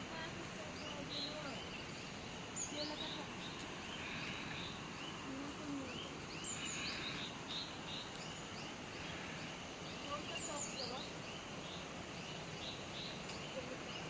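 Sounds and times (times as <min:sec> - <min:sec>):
birds chirping: 0:00.0 - 0:14.0
steady background hiss: 0:00.0 - 0:14.0.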